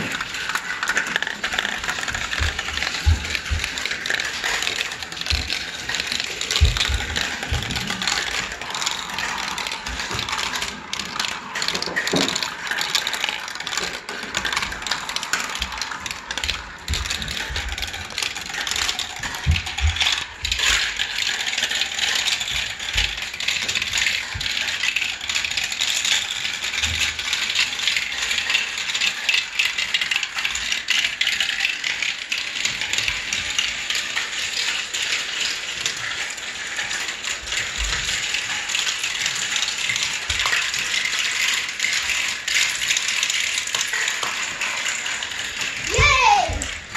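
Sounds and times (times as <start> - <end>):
marbles rattling through plastic run: 0.0 - 46.9.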